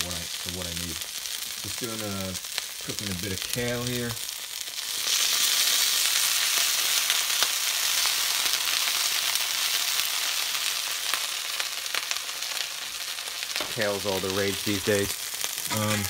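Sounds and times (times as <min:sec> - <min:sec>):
crackles: 0:00.0 - 0:16.0
kale sizzling in a pan: 0:00.0 - 0:16.0.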